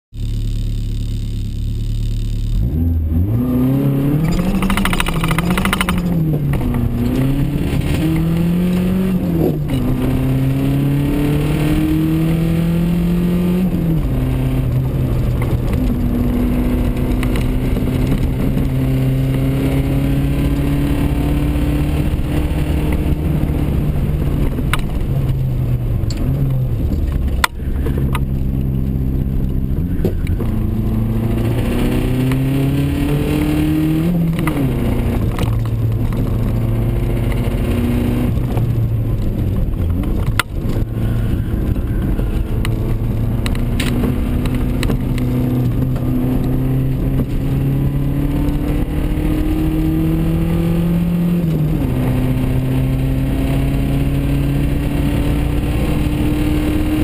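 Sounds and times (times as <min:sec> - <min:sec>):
car engine revving: 0:00.1 - 0:57.0.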